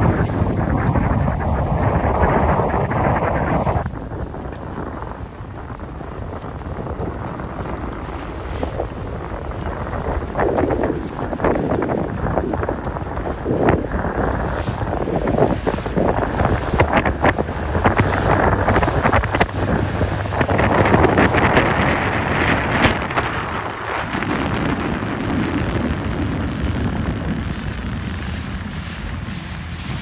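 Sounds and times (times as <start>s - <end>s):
water splashing and rushing: 0.0s - 30.0s
wind buffeting microphone: 0.0s - 30.0s.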